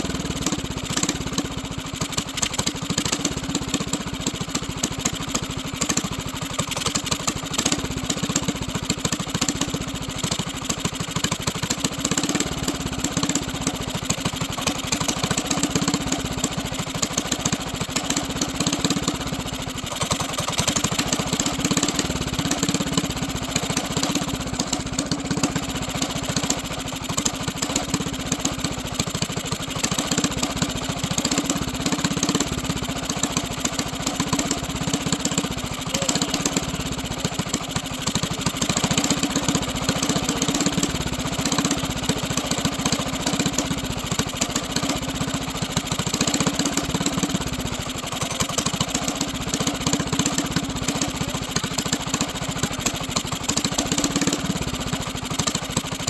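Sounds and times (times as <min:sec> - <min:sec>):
small engine idling: 0:00.0 - 0:56.0.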